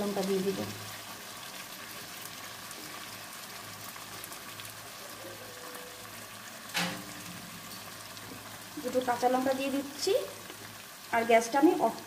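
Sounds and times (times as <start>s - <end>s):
gravy sizzling in a wok: 0.0s - 12.0s.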